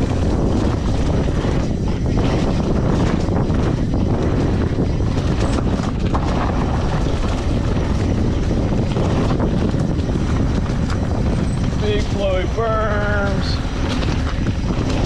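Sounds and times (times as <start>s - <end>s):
bike tyres on dirt and leaves: 0.0s - 15.0s
wind rushing on microphone: 0.0s - 15.0s.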